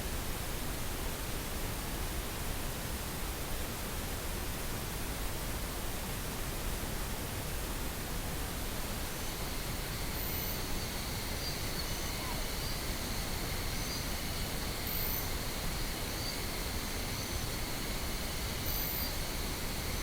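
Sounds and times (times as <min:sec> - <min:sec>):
steady pink noise hiss: 0:00.0 - 0:20.0.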